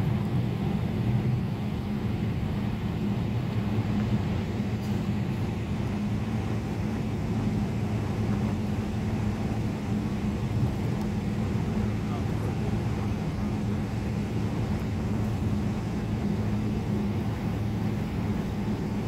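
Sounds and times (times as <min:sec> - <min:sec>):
aircraft engines rumbling: 0:00.0 - 0:19.0.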